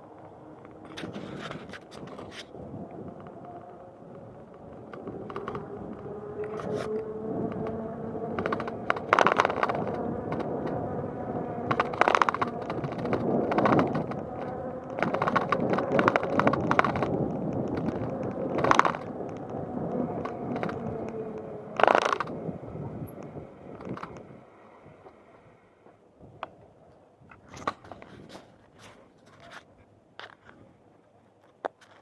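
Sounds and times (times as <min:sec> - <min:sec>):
bike clicking and rattling: 0:00.0 - 0:25.3, 0:31.3 - 0:32.0
bicycle rolling on pavement: 0:00.0 - 0:25.6.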